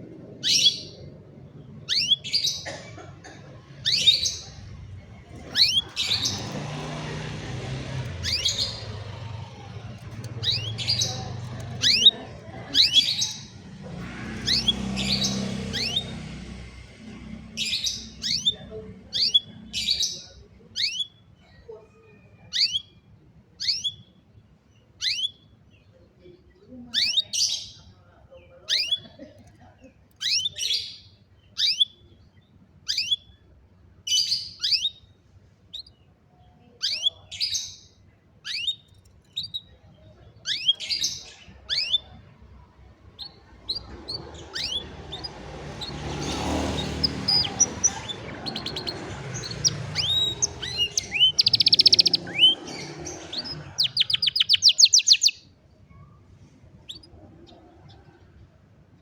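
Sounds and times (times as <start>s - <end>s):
canary singing: 0.0s - 29.3s, 30.1s - 55.6s, 56.7s - 58.2s.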